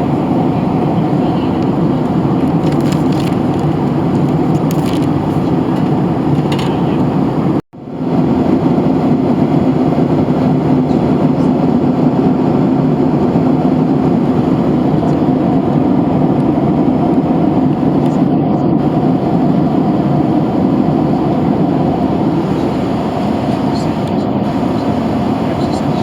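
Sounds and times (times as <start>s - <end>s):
airliner cabin engine rush: 0.0s - 26.0s
constant low hum: 0.0s - 26.0s.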